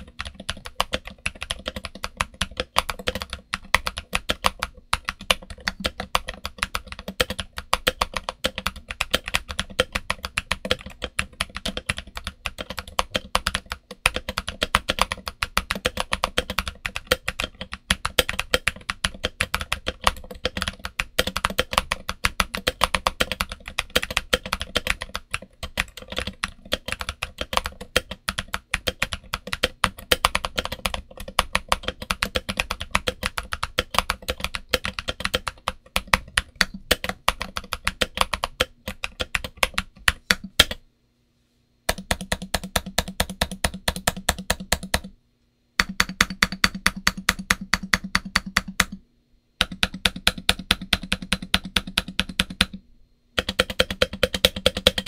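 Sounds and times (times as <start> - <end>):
fast typing on mechanical keyboard: 0.0 - 40.8, 41.9 - 45.1, 45.8 - 49.0, 49.6 - 52.8, 53.4 - 55.0.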